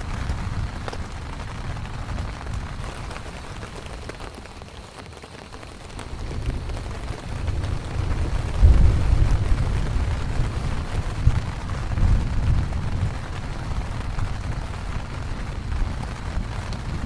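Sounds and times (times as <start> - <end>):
rain drops ticking on surface: 0.0 - 17.0.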